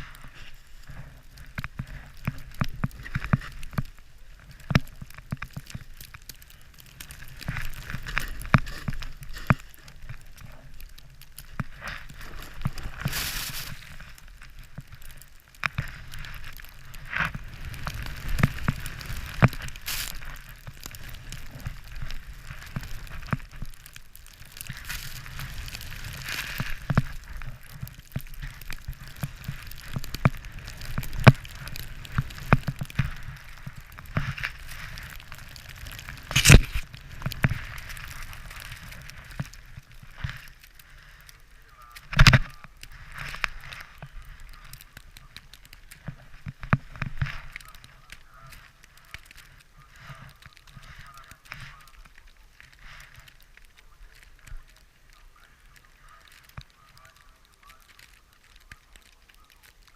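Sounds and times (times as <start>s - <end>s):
snow hissing and crunching: 0.0s - 59.9s.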